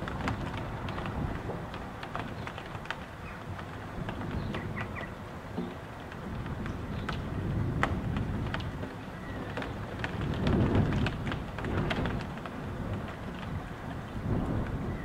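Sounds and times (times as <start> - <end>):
gusting wind rumble: 0.0 - 15.0
raindrops tapping: 0.0 - 15.0.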